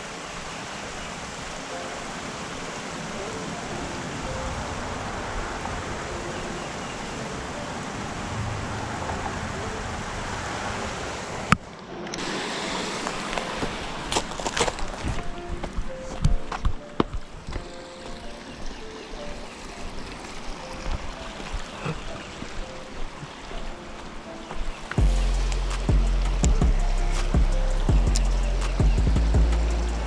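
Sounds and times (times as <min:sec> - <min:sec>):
rushing outdoor noise: 0:00.0 - 0:30.0.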